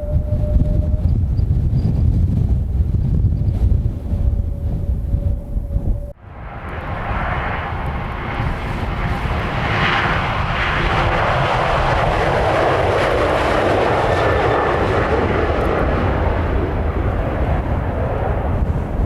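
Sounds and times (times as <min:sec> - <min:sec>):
jet engines of departing plane: 0:00.0 - 0:19.0
wind rumble on microphone: 0:00.0 - 0:19.0.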